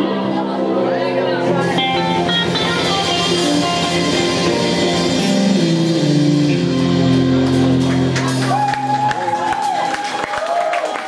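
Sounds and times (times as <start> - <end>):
live rock band playing: 0.0 - 10.2.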